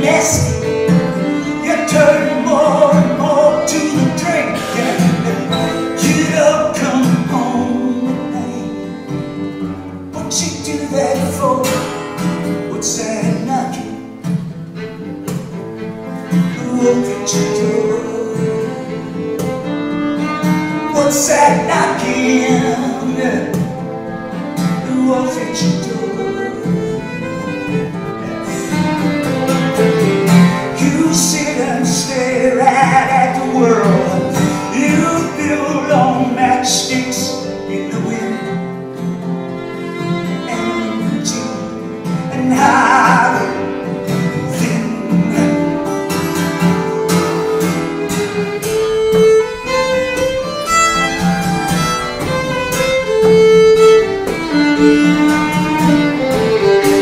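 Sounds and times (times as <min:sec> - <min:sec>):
fiddle: 0:00.0 - 0:57.0
guitar: 0:00.0 - 0:57.0.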